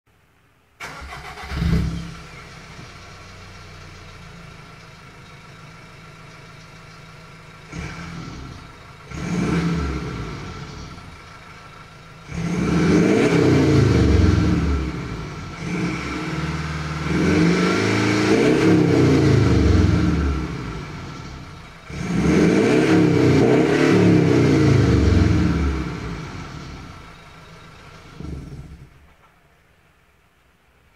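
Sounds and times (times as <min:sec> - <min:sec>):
car engine starting and revving: 0:00.8 - 0:29.3.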